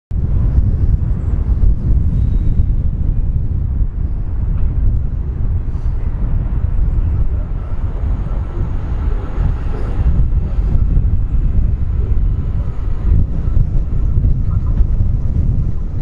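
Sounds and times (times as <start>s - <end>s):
train rumble: 0.1s - 16.0s
faint whine: 0.3s - 16.0s.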